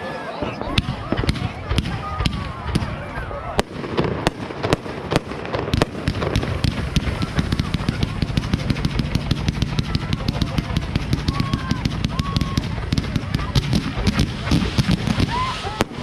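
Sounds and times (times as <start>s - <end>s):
fireworks bangs and crackle: 0.0s - 16.0s.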